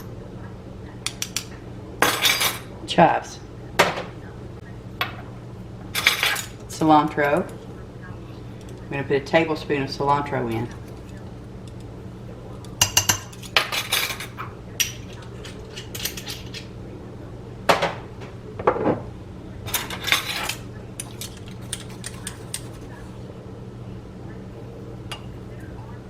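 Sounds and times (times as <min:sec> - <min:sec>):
faint steady low hum: 0:00.0 - 0:26.0.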